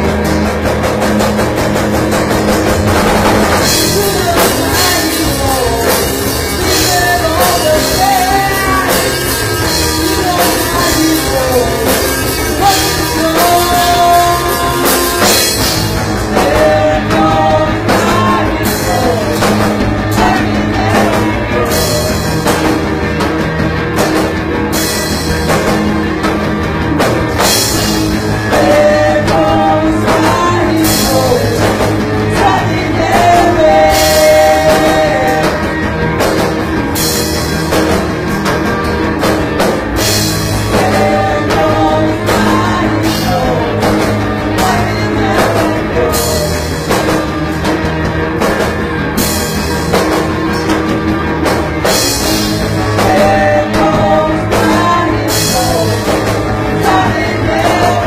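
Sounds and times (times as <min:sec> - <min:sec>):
rock music with singer: 0:00.0 - 0:58.0.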